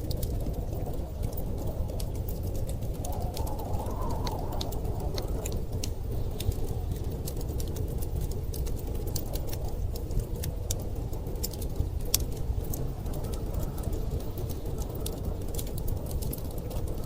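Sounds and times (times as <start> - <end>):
storm wind rumbling: 0.0 - 17.0
wood fire crackling and popping: 0.0 - 17.0.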